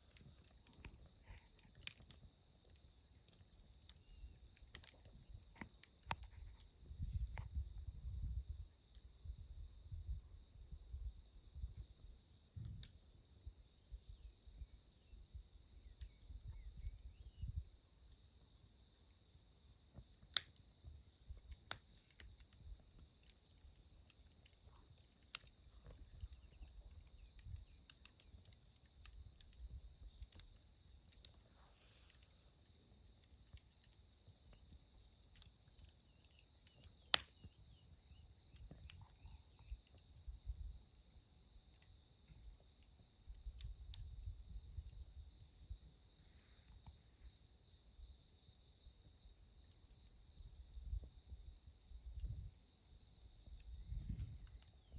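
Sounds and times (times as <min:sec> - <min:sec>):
campfire pops and cracks: 0:00.0 - 0:10.2, 0:10.8 - 0:13.3, 0:15.0 - 0:46.1, 0:49.8 - 0:54.9
insects chirring: 0:00.0 - 0:54.9.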